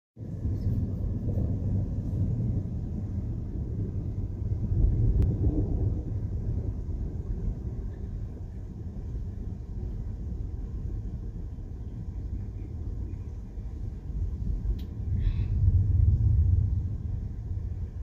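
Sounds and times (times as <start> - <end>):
low rolling thunder: 0.2 - 18.0.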